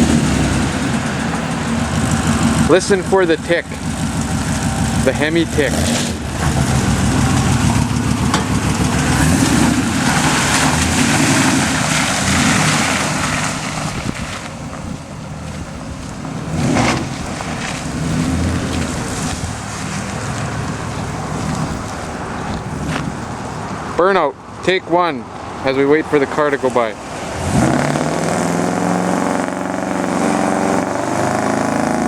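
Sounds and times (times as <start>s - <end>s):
engine ticking: 0.0s - 31.8s
vee eight engine running: 0.0s - 32.0s.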